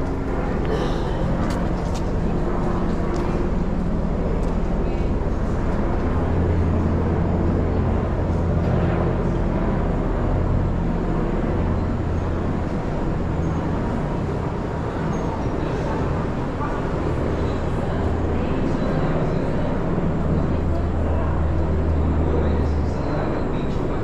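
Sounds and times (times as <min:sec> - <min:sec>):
rumble of passing vehicles: 0:00.0 - 0:24.0.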